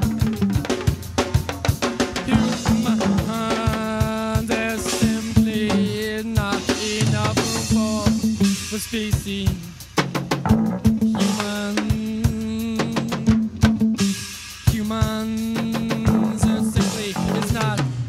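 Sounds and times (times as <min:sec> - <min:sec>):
drum kit playing: 0:00.0 - 0:18.0.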